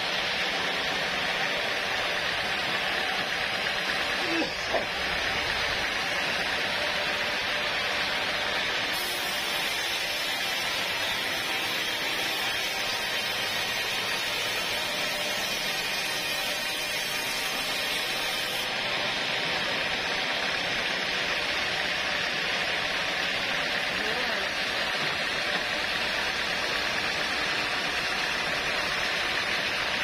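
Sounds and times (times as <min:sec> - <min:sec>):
sawmill machinery running: 0:00.0 - 0:30.0.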